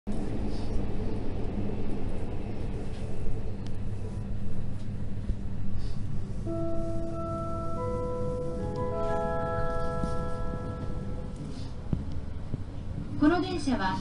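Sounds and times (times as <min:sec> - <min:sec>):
faint hum: 0:00.1 - 0:14.0
train running rumble: 0:00.1 - 0:14.0.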